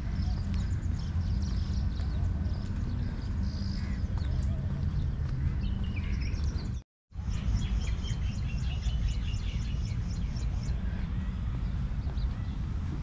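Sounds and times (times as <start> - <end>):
low rumble on microphone: 0.0 - 13.0
small birds chirping: 0.0 - 13.0.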